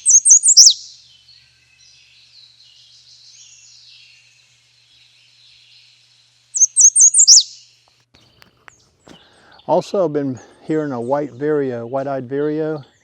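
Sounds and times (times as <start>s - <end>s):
faint background bird chatter: 0.0s - 13.0s
high thin bird song: 0.0s - 13.0s.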